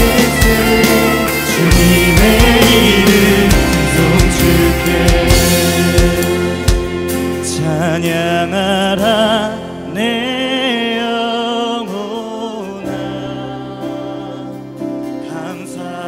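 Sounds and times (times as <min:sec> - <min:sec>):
acoustic guitar and band playing: 0:00.0 - 0:16.0
person singing with vibrato: 0:00.0 - 0:16.0.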